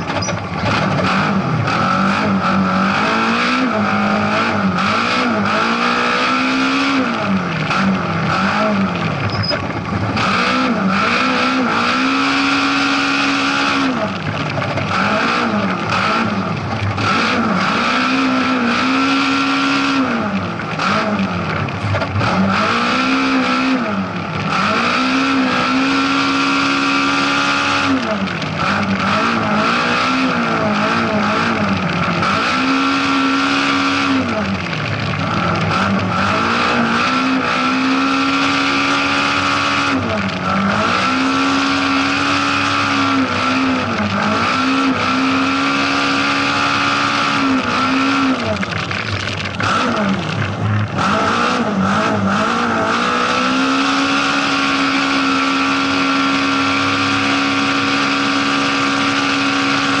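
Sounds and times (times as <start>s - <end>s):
rally car engine at high revs: 0.0s - 60.0s.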